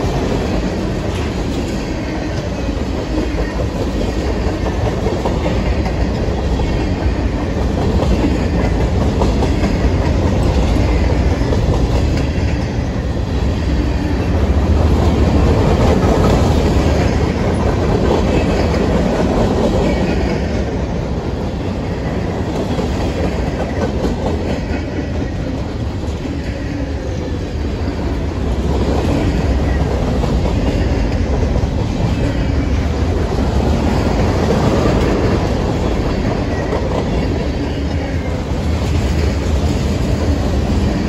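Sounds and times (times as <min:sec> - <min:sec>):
freight cars rumbling on rails: 0:00.0 - 0:41.0.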